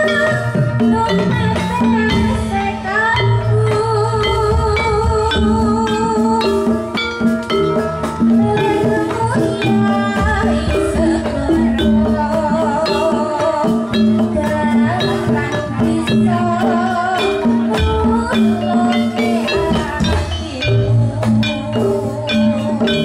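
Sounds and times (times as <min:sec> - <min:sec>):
drums and percussion beat: 0:00.0 - 0:23.0
traditional dance music: 0:00.0 - 0:23.0.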